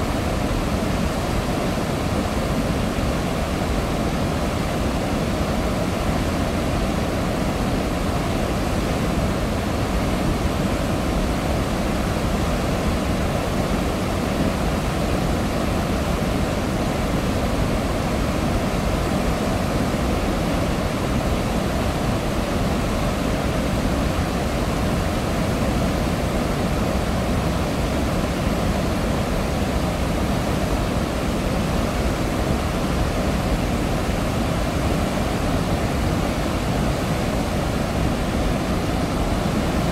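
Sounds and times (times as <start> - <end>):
roar of rushing water: 0.0 - 39.9.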